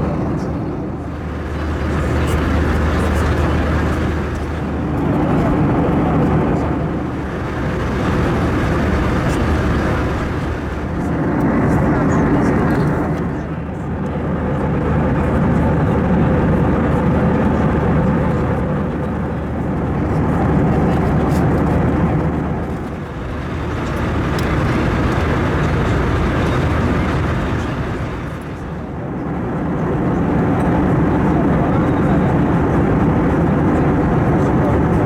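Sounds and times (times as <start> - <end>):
jet engine noise inside cabin: 0.0 - 35.0.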